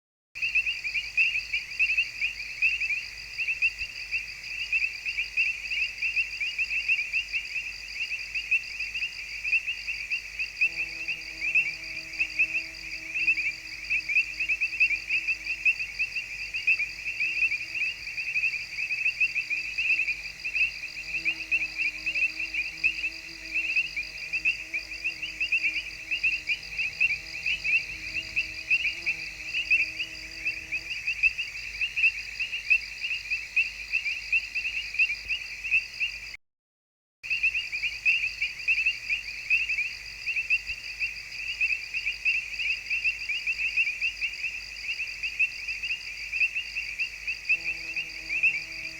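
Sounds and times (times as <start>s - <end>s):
crickets chirring: 0.4s - 36.4s, 37.3s - 48.9s.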